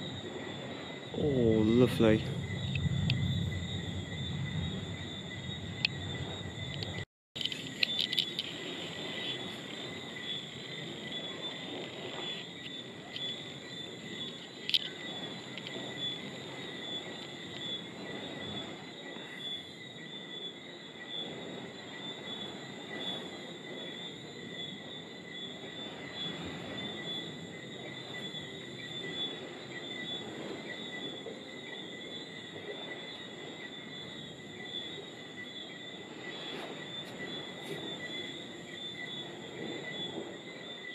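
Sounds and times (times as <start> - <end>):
crickets trilling: 0.0 - 40.9
insects chirring: 0.0 - 40.9.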